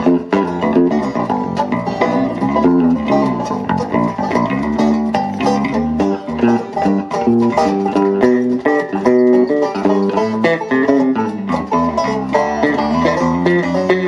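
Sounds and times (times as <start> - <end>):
acoustic guitar: 0.0 - 14.0
banjo: 0.0 - 14.0
electric guitar: 0.0 - 14.0.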